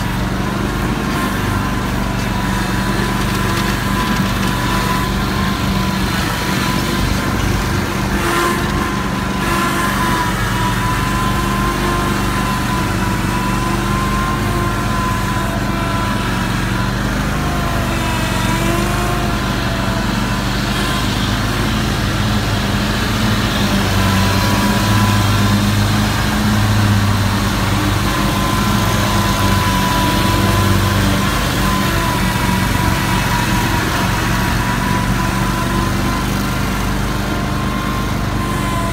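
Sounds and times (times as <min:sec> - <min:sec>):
mower engine running: 0:00.0 - 0:38.9.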